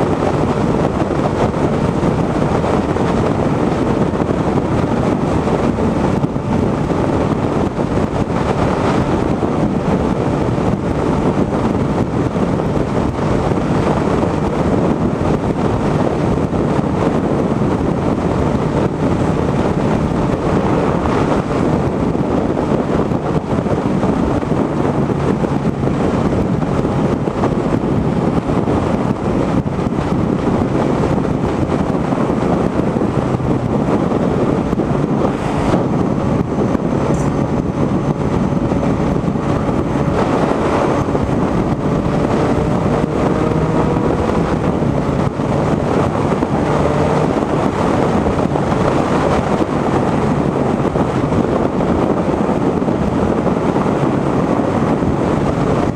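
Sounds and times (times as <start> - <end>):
motorcycle engine: 0.0 - 55.9
road noise: 0.0 - 55.9
wind noise on microphone: 0.0 - 55.9.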